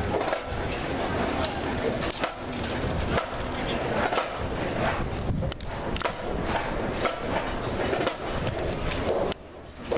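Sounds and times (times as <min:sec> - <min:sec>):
crowd noise: 0:00.0 - 0:09.9.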